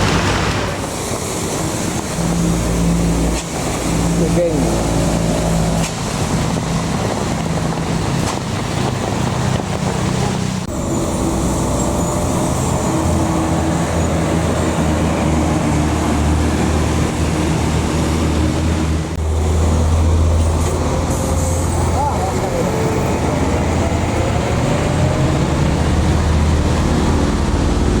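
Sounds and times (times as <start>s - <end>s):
diesel engines of heavy vehicles: 0.0s - 28.0s
traffic noise: 0.0s - 28.0s.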